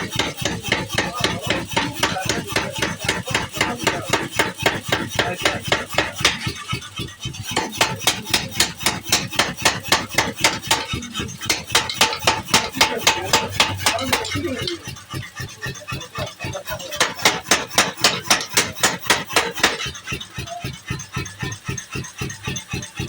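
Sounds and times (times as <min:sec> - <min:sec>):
power hammer striking hot steel: 0:00.0 - 0:15.5, 0:16.2 - 0:20.4.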